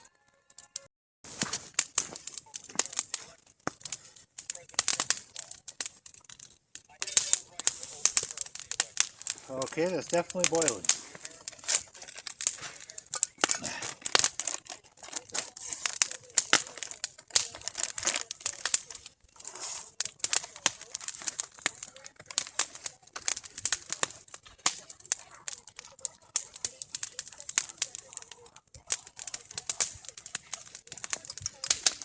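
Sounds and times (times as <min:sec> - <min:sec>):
wood fire crackling and popping: 0:00.6 - 0:32.0.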